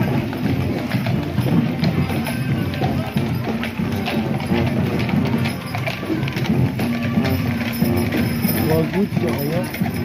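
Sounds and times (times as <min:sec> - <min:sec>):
crowd voices: 0:00.0 - 0:10.0
music: 0:00.0 - 0:10.0.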